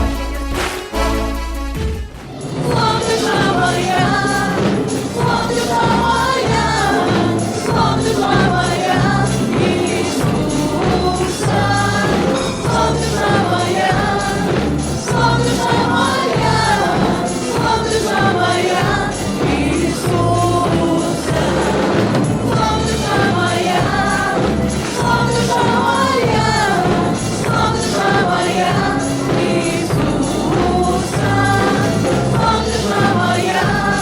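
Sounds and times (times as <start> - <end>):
band with bass and beat: 0.0 - 34.0
group of voices singing: 2.2 - 34.0.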